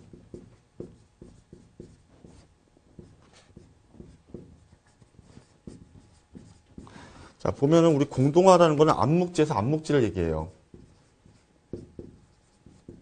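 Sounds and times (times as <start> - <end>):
chalk scratching on chalkboard: 0.0 - 8.1, 10.1 - 13.0.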